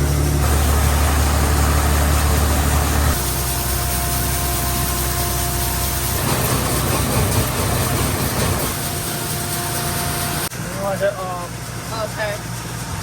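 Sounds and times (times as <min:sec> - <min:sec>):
combine engine drone: 0:00.0 - 0:13.0
steady whine: 0:00.0 - 0:13.0.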